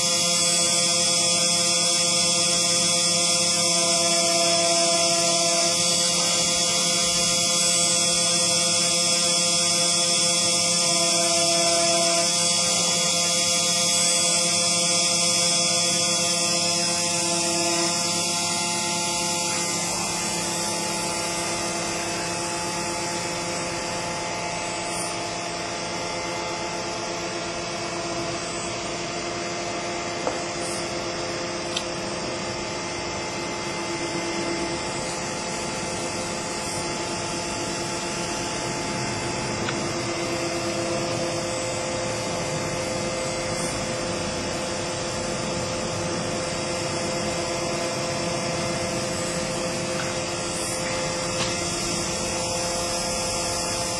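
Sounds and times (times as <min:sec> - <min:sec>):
engraving machine whine: 0:00.0 - 0:53.9.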